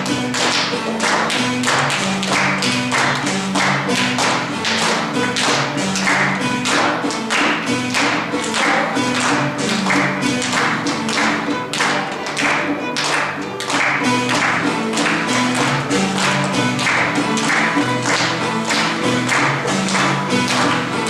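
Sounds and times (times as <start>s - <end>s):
wooden xylophone playing: 0.0s - 21.0s.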